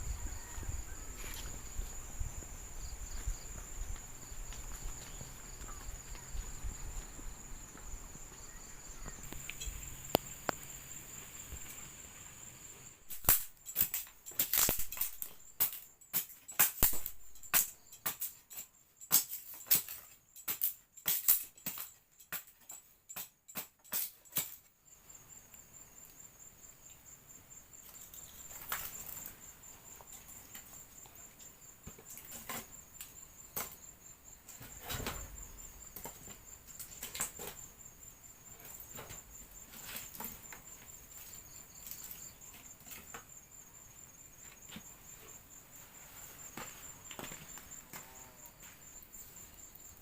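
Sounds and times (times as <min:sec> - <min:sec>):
high insect trill: 0:00.0 - 0:50.0.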